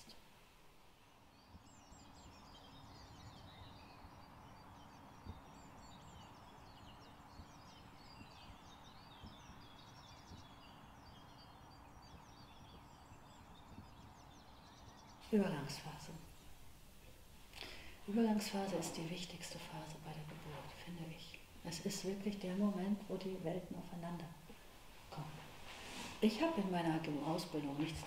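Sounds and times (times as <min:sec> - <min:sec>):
low steady hum: 0:00.0 - 0:28.0
songbirds chirping: 0:00.0 - 0:28.0.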